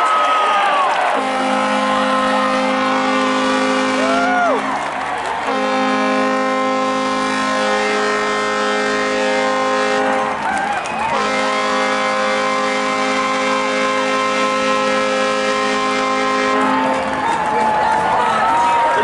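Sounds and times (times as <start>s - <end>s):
arena horn blasts: 1.1s - 17.2s.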